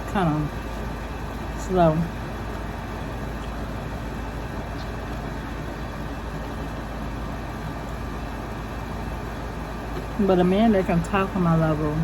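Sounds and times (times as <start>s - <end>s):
low background rumble and hiss: 0.0s - 12.0s.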